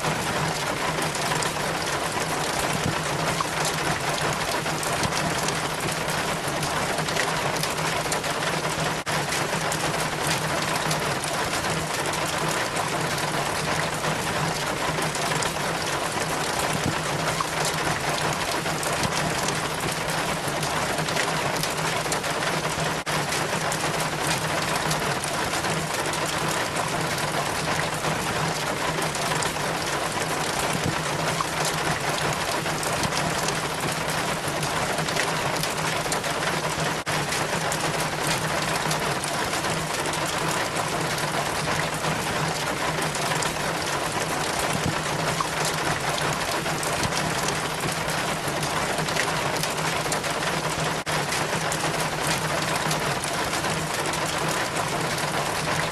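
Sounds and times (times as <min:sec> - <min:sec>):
rainwater trickling down rain chain: 0:00.0 - 0:55.9.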